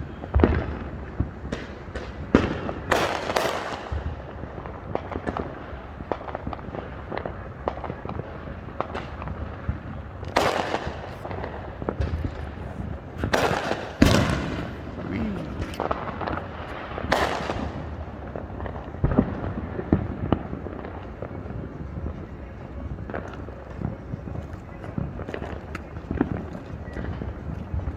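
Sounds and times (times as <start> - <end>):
fireworks bangs and pops: 0.0 - 27.9
fireworks crackling: 0.8 - 27.9.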